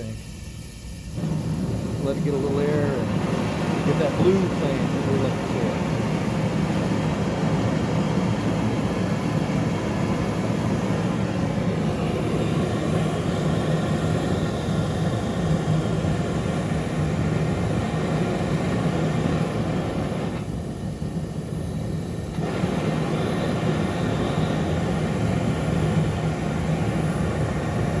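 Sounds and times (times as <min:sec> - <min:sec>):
gas forge burner roaring: 0:00.0 - 0:28.0.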